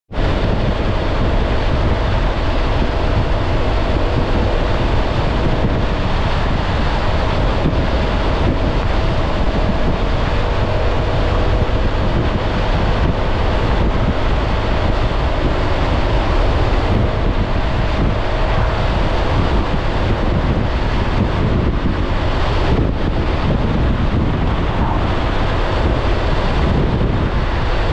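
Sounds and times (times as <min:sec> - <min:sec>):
scooter engine droning: 0:00.1 - 0:27.9
wind buffeting microphone: 0:00.1 - 0:27.9.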